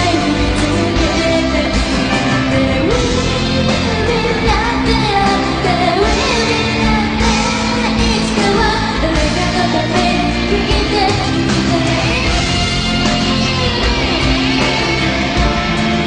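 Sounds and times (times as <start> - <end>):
woman singing into microphone: 0.0 - 15.4
backing band playing: 0.0 - 16.0.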